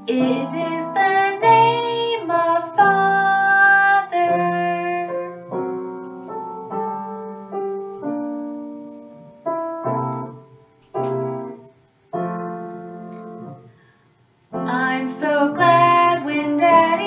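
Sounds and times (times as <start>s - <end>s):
piano chords: 0.0s - 13.8s, 14.5s - 17.0s.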